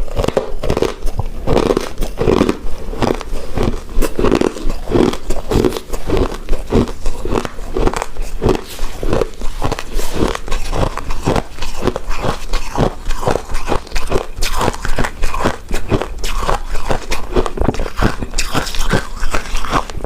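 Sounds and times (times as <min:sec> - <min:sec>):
chewing rice cake: 0:00.0 - 0:20.0.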